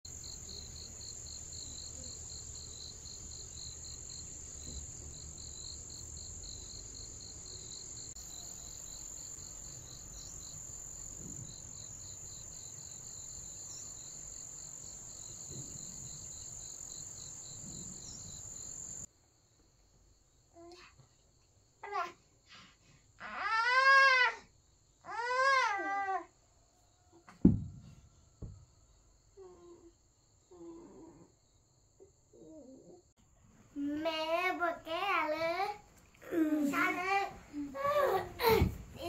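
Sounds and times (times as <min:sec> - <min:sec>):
insects chirping: 0:00.1 - 0:22.5, 0:26.4 - 0:39.0.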